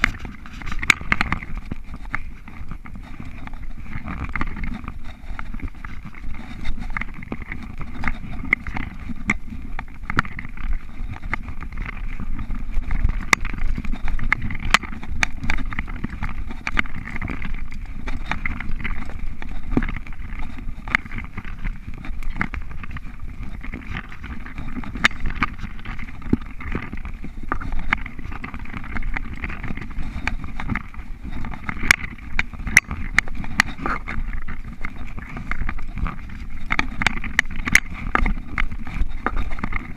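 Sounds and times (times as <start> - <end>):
bike clicks and rattles: 0.0 - 39.9
bike rolling on dirt rumble: 0.0 - 39.9.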